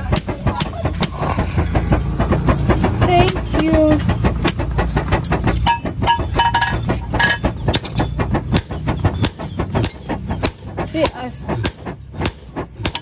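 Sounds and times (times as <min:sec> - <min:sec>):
low rumble: 0:00.0 - 0:12.8
metal and wood tools knocking: 0:00.0 - 0:13.0.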